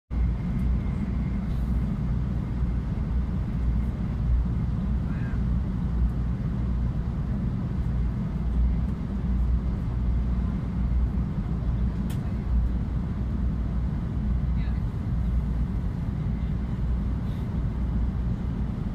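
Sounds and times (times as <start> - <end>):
train rumbling inside cabin: 0.1 - 18.9.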